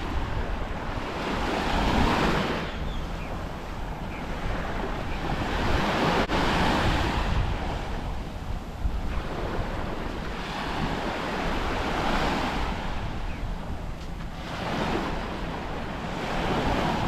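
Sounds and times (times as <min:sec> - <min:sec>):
surf washing up beach: 0:00.0 - 0:17.0
wind rumble on microphone: 0:00.0 - 0:17.0.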